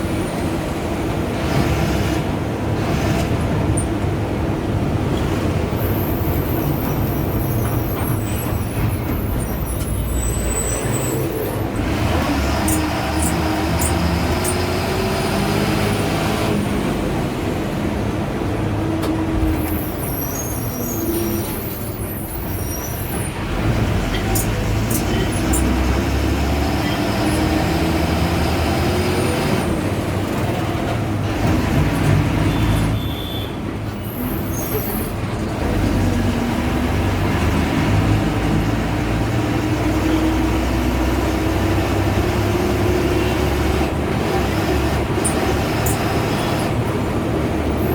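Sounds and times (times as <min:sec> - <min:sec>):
bus diesel engine accelerating: 0:00.0 - 0:47.9.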